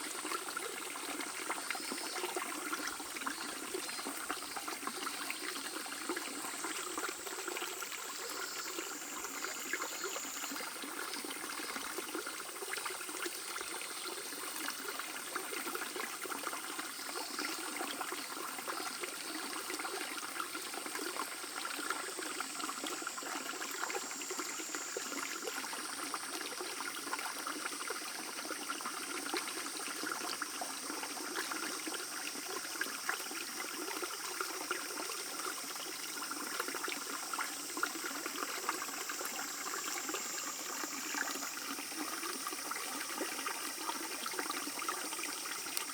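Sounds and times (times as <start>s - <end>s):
stream babbling: 0.1s - 45.9s.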